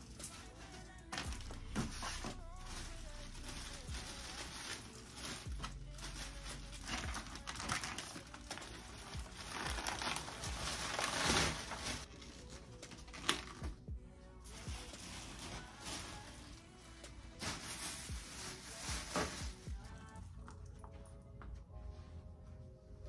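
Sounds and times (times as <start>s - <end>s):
plastic bag crinkling: 0.0s - 13.7s, 14.4s - 20.2s.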